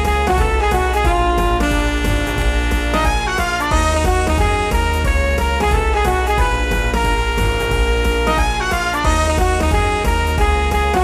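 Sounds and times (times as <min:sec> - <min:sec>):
jazzy blues music with brass: 0:00.0 - 0:11.0.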